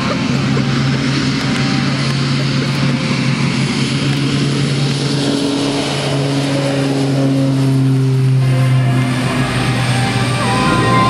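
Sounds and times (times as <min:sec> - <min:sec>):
propeller plane droning: 0:00.0 - 0:11.0.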